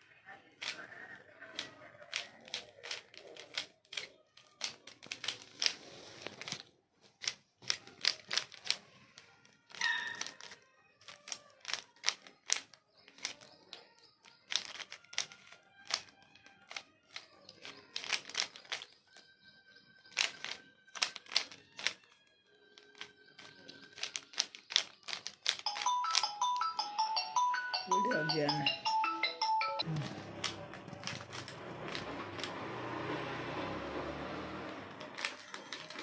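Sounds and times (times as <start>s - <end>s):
puzzle cube plastic clicks: 0.5s - 19.3s, 20.1s - 22.2s, 22.8s - 26.6s, 29.8s - 33.2s, 34.8s - 36.0s.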